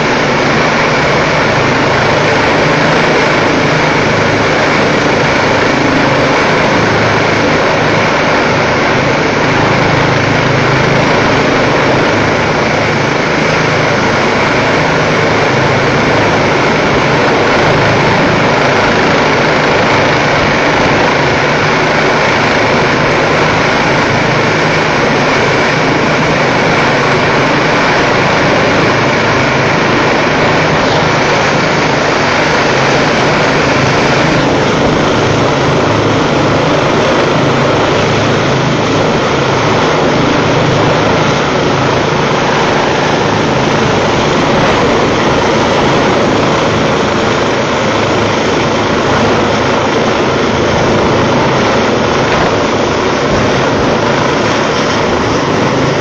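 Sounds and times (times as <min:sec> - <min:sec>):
helicopter rotor and turbine noise: 0:00.0 - 0:56.0
thin high whine: 0:00.0 - 0:56.0.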